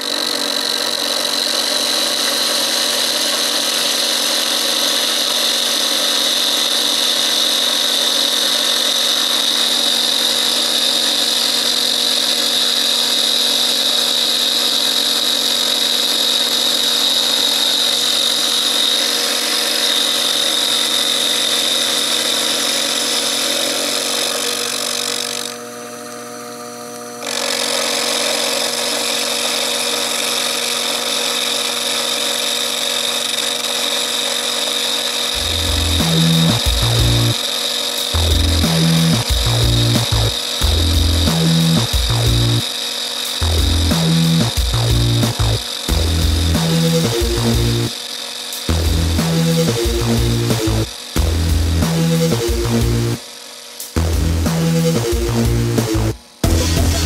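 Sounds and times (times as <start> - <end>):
milling machine high whine: 0.0 - 57.0.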